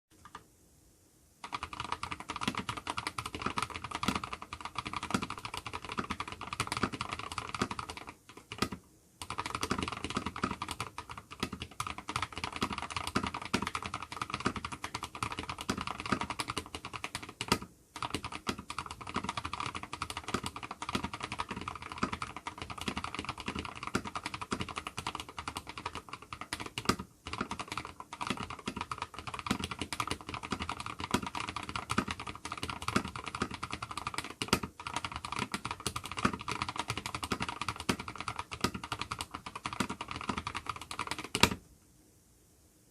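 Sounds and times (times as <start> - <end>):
mechanical keyboard typing: 1.4 - 41.6.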